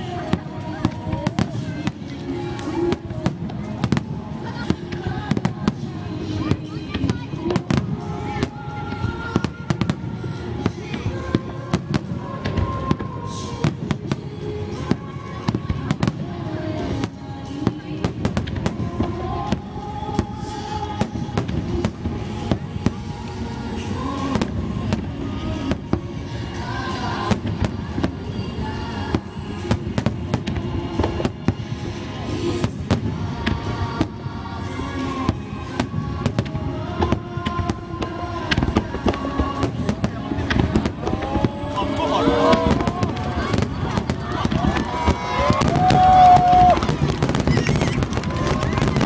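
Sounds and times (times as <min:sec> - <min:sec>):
fireworks bangs and crackles: 0:00.0 - 0:49.0
music playing: 0:00.0 - 0:49.0.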